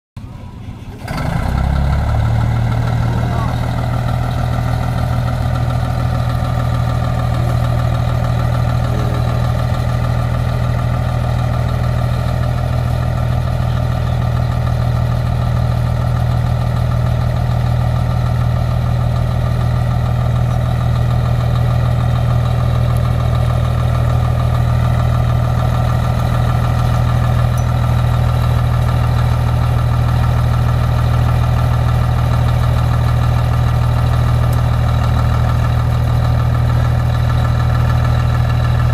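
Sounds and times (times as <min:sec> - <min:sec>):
diesel truck engine idling: 0:00.2 - 0:38.9.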